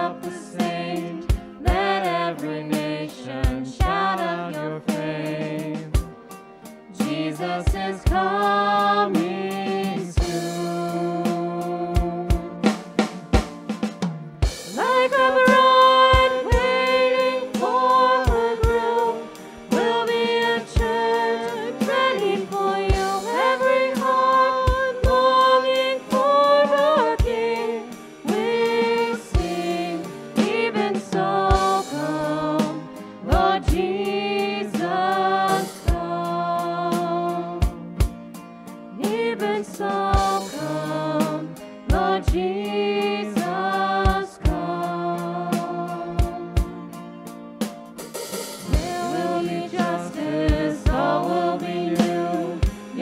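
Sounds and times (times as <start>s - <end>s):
person singing: 0.0s - 6.0s, 7.0s - 12.6s, 14.8s - 37.8s, 39.0s - 46.8s, 48.6s - 53.0s
acoustic guitar: 0.0s - 53.0s
drum kit: 0.0s - 53.0s.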